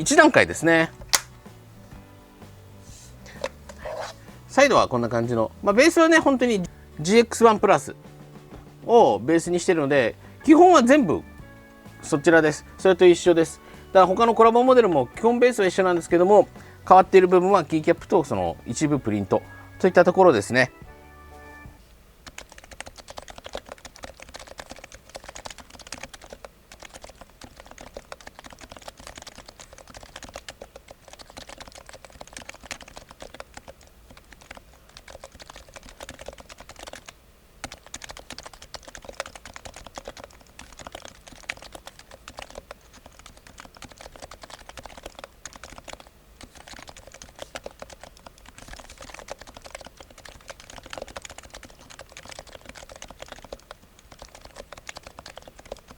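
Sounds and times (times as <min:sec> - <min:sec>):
fast typing on a keyboard: 0:04.5 - 0:07.9, 0:08.9 - 0:20.6, 0:22.2 - 0:55.9.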